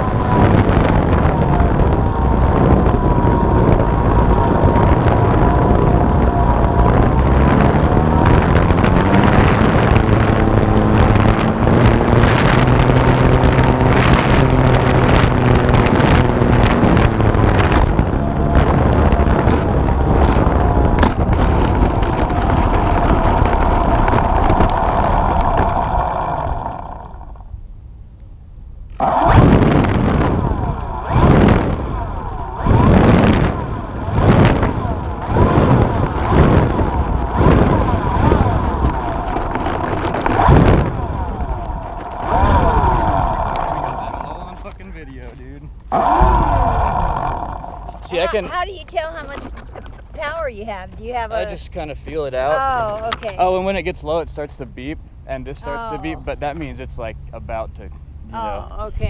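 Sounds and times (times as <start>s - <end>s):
electric motor and propeller whining: 0.0s - 27.6s, 28.9s - 45.2s, 45.8s - 50.4s, 55.6s - 56.3s
wind rushing over microphone: 0.0s - 28.0s, 28.8s - 59.0s.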